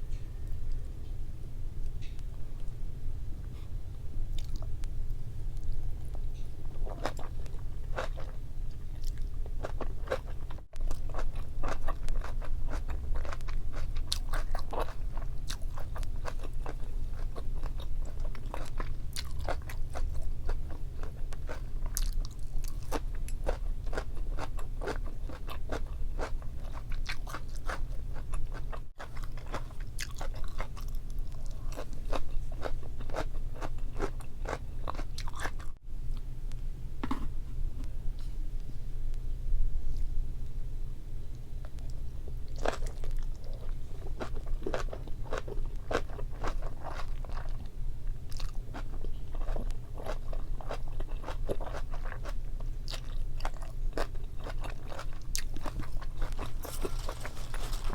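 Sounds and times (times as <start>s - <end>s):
steady low hum: 0.0s - 57.9s
crunching and chewing: 4.3s - 36.3s, 41.3s - 57.9s.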